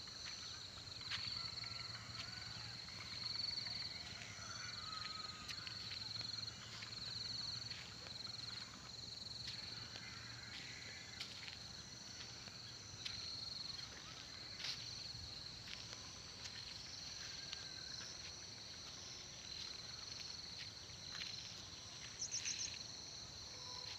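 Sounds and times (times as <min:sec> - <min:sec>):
insects chirping: 0:00.0 - 0:23.9.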